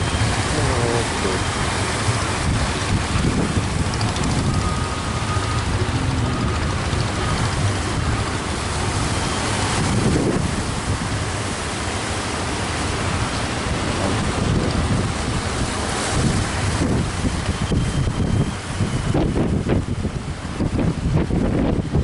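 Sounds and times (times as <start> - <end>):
sea surf: 0.0 - 22.0
strong wind buffeting microphone: 0.0 - 22.0.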